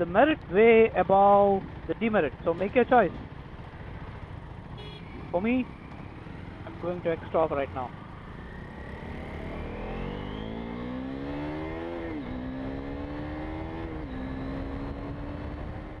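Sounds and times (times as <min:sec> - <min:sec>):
motorcycle engine accelerating: 0:01.6 - 0:16.0.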